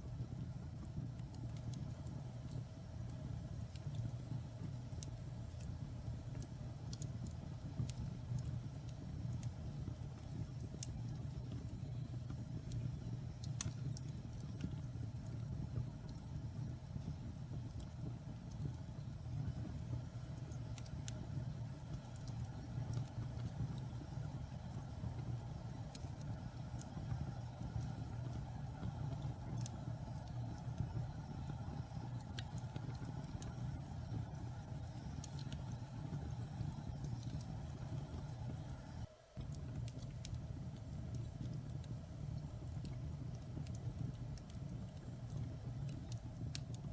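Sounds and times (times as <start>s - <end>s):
crackles and pops of fire: 0.0s - 46.9s
wood fire burning: 0.0s - 46.9s.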